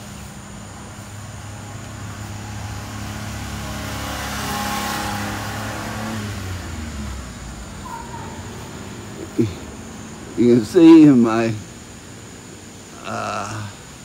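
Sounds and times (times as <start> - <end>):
vehicle engine passing by: 0.0 - 11.8.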